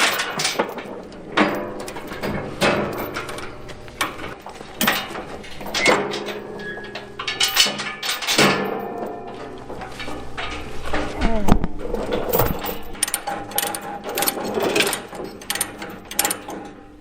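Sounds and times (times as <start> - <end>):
metal chains clanking and rattling: 0.0 - 17.0.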